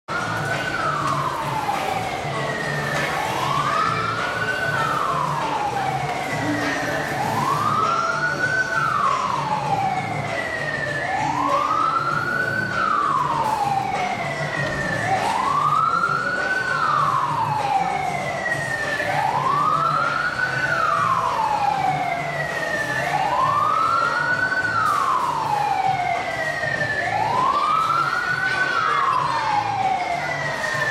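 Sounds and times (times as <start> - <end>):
siren wailing: 0.1 - 30.9.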